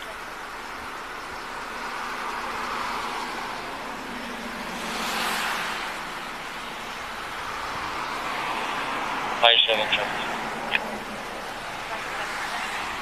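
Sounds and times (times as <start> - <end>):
vehicle passing: 0.9 - 13.0.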